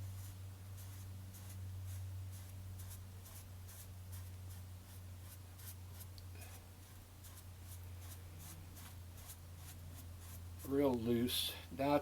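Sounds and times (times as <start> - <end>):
paintbrush scratching on canvas: 0.0 - 11.0.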